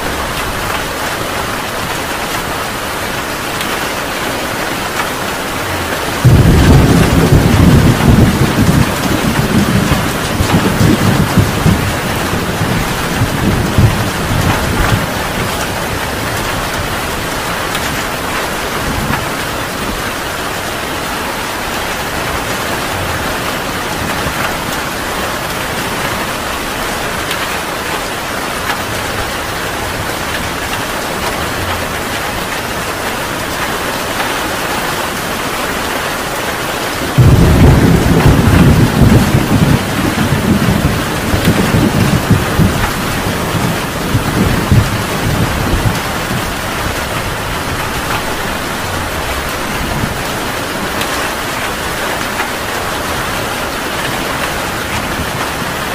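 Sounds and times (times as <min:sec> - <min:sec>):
thunderclap rumbling: 0:00.0 - 0:34.3, 0:36.9 - 0:55.9
heavy rain hissing: 0:00.0 - 0:55.9.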